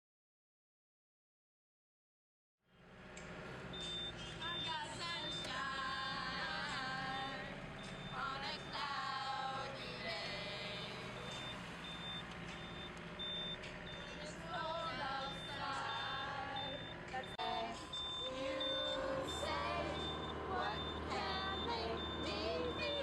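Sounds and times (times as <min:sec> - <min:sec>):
engine hum: 0:02.7 - 0:23.0
vehicle warning beeper: 0:03.6 - 0:23.0
group of people singing: 0:04.4 - 0:23.0.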